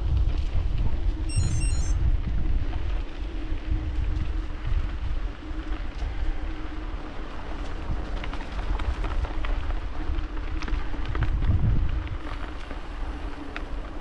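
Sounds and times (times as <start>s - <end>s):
bicycle tyres crackling over leaves: 0.0s - 14.0s.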